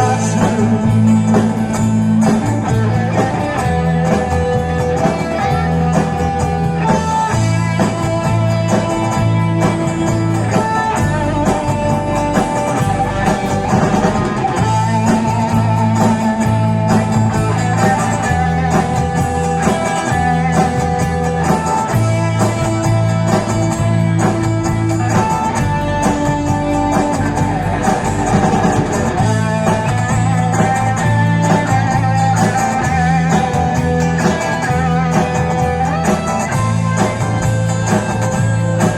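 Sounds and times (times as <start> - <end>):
bass notes: 0.0 - 38.9
drum kit: 0.0 - 38.9
electric guitar playing: 0.0 - 38.9.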